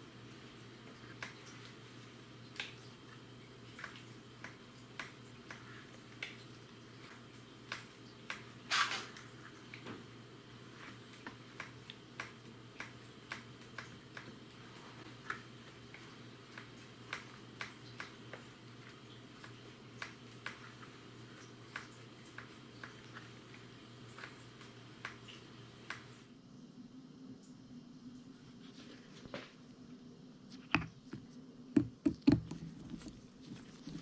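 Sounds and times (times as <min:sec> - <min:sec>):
faint steady low hum: 0:00.0 - 0:34.0.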